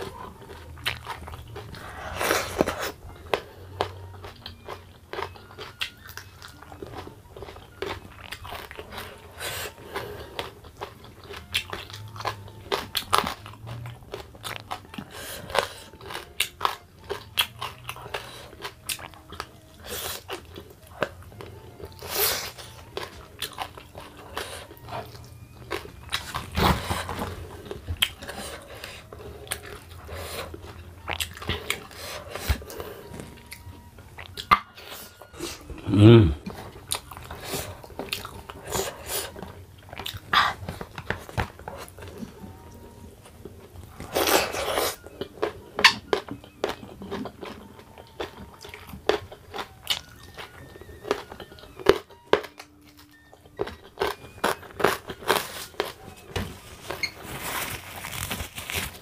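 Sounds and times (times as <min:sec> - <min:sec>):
man chewing and crunching: 0:00.0 - 0:59.0.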